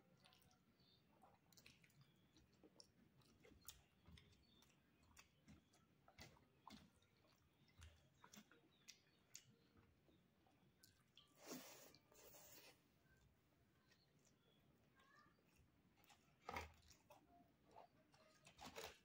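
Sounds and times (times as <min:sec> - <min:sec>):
close-up chewing: 0:00.0 - 0:19.0.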